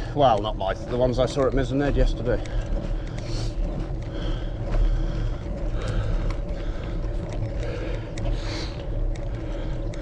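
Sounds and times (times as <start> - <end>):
bicycle road noise: 0.0 - 10.0.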